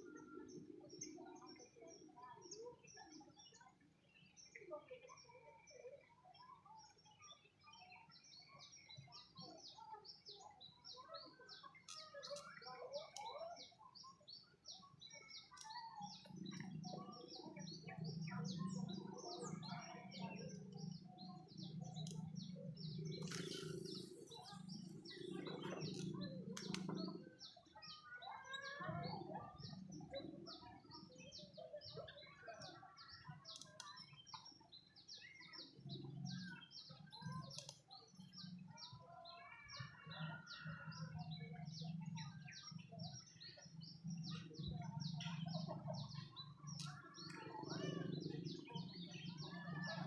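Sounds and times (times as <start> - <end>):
birds chirping: 8.0 - 50.0.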